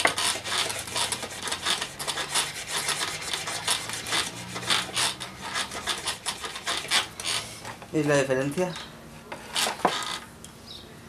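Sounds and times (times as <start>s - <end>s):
bone rubbing on wood: 0.0s - 8.2s, 9.3s - 10.3s.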